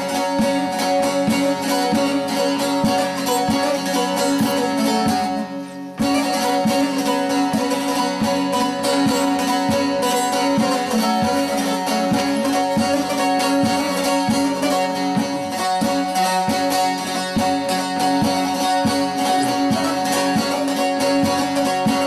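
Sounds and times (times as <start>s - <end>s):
plucked long-necked lute: 0.0s - 22.0s.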